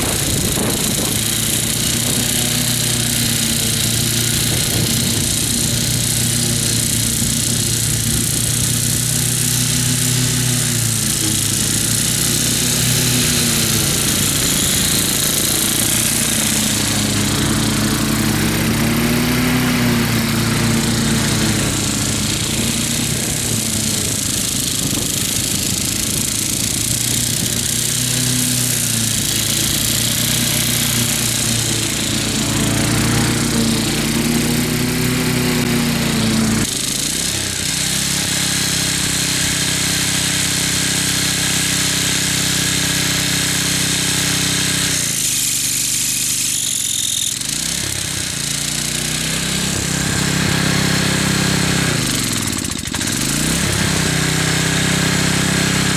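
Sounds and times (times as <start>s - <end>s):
ride-on mower engine: 0.0s - 55.9s.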